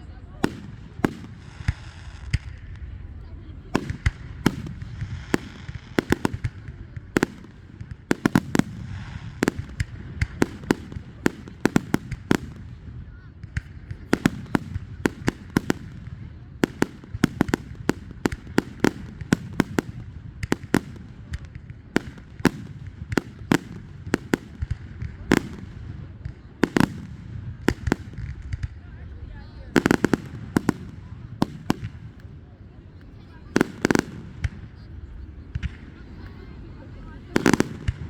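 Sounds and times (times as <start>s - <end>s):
fireworks cracks and bangs: 0.3s - 3.0s, 3.6s - 38.0s.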